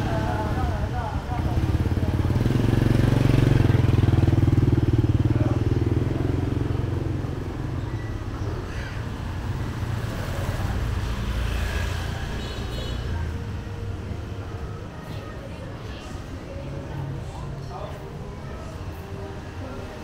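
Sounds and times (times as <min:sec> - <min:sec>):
motor scooter passing: 0:00.0 - 0:16.5
street background: 0:00.0 - 0:20.0.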